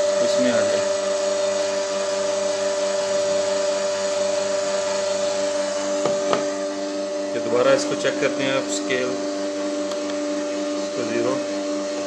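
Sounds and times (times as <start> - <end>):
oil press motor whine: 0.0 - 12.0.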